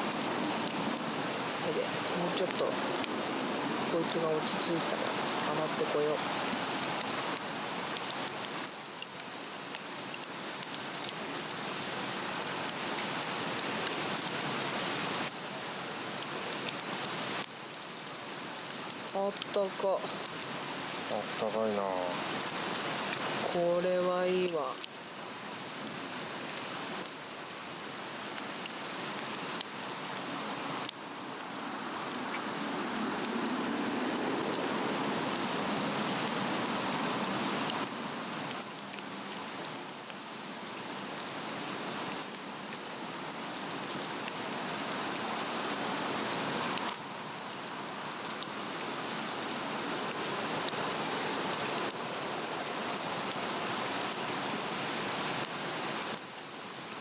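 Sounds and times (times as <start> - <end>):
log fire crackling and popping: 0.0 - 56.3.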